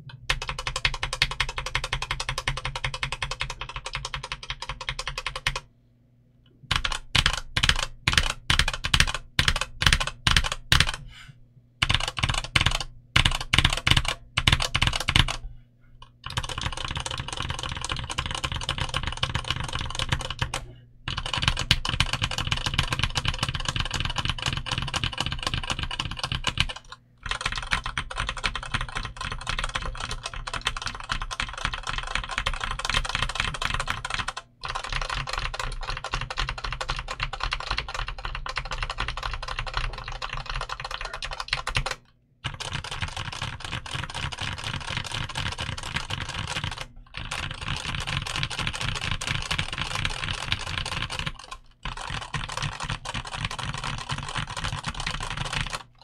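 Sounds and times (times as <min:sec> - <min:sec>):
fast mechanical keyboard typing: 0:00.3 - 0:05.6, 0:06.7 - 0:11.0, 0:11.8 - 0:15.4, 0:16.1 - 0:56.0.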